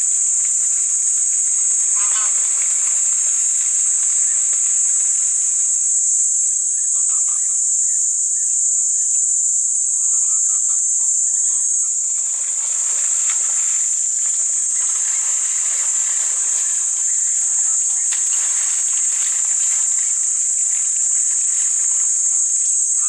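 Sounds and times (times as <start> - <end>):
faint scattered sounds: 0.0 - 23.0
high-pitched insect chorus: 0.0 - 23.0.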